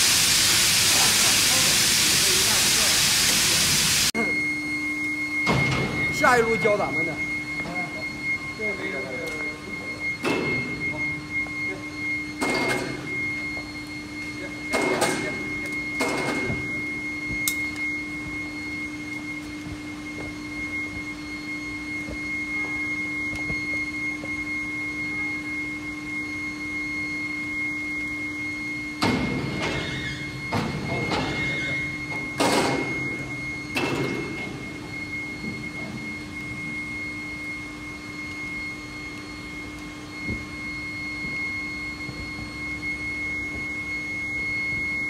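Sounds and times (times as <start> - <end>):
foundry machinery humming with whine: 0.0 - 45.0.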